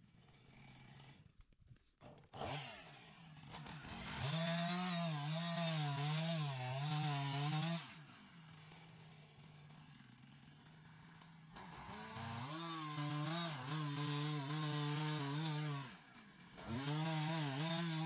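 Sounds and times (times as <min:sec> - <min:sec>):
chainsaw cutting wood: 0:00.1 - 0:18.0.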